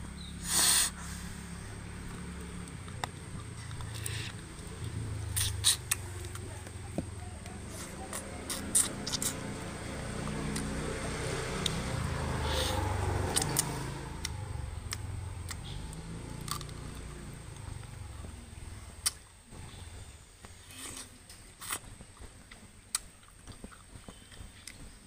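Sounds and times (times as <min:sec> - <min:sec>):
vehicle engine passing: 0:00.0 - 0:20.4.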